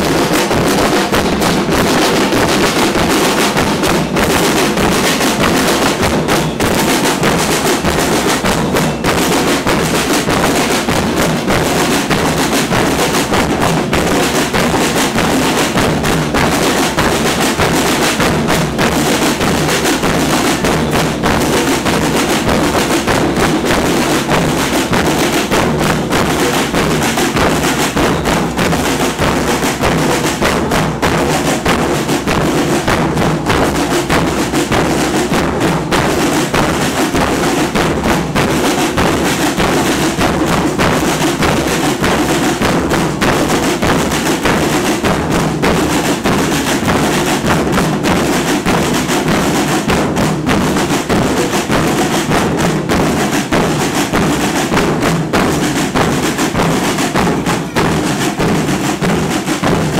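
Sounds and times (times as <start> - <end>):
loud percussion drumming: 0.0 - 59.9.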